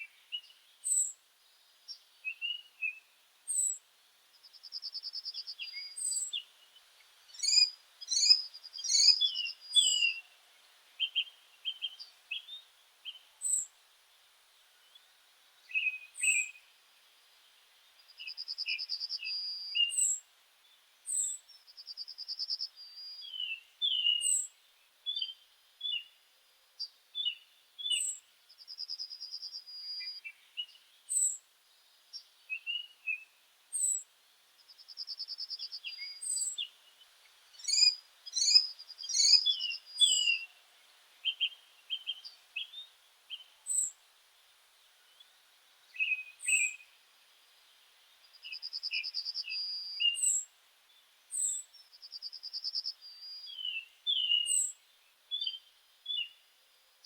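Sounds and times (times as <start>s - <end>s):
birds singing: 0.0s - 13.7s, 14.8s - 16.7s, 17.8s - 26.2s, 26.8s - 44.0s, 44.8s - 47.0s, 47.7s - 56.5s.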